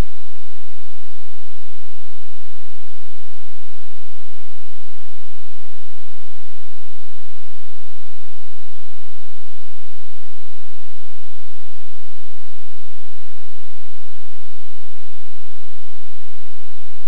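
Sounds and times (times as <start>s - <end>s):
electrical hum and hiss: 0.0s - 17.0s
faint steady tones: 0.0s - 17.0s.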